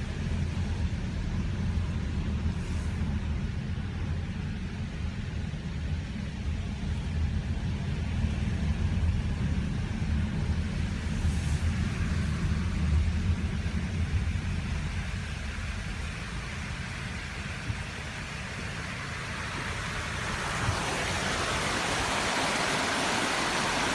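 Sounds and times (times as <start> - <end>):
car engine and tyres rumbling: 0.0 - 23.9
road and wind noise hiss: 0.0 - 23.9.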